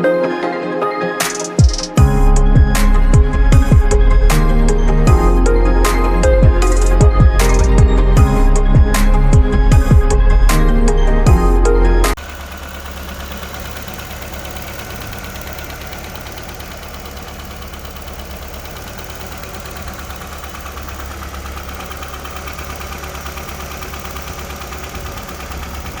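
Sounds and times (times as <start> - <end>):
car engine idling: 1.3 - 26.0.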